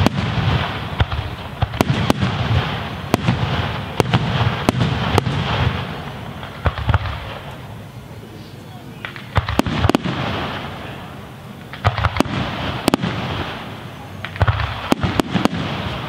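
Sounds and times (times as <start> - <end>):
firework shells bursting: 0.0 - 8.1, 8.9 - 16.0
firework crackling: 0.0 - 16.0.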